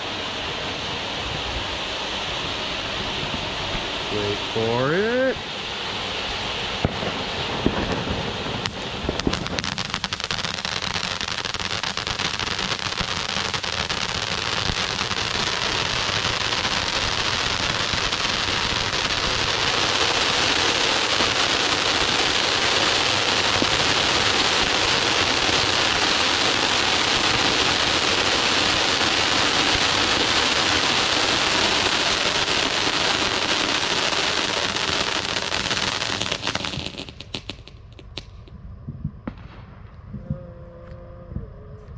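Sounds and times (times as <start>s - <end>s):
firework fountains hissing: 0.0s - 38.5s
fine crackle of sparks: 0.0s - 38.6s.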